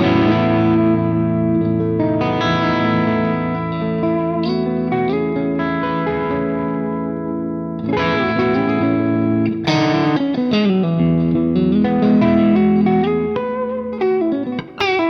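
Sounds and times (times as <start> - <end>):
electric guitar chords and notes: 0.0 - 15.0.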